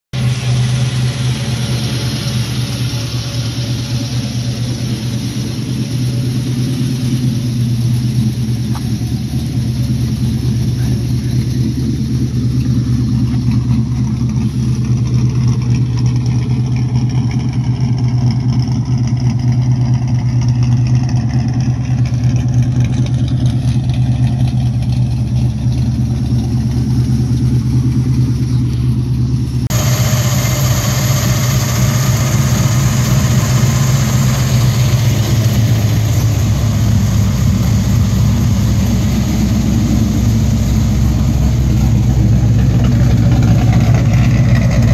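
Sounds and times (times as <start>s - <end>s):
engine idling with deep rumble: 0.1s - 44.9s.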